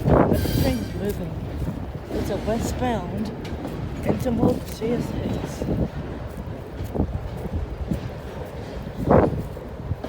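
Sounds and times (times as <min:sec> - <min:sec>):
freight train rumbling: 0:00.0 - 0:10.0
wind buffeting microphone: 0:00.0 - 0:10.0.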